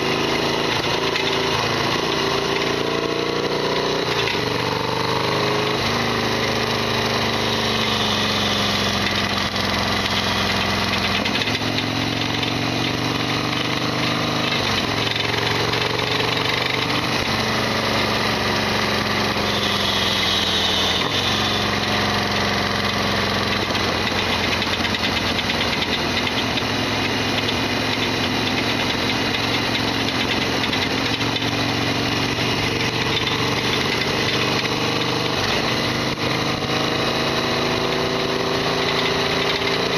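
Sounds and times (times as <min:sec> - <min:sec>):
motorcycle engine rattling: 0:00.0 - 0:39.9.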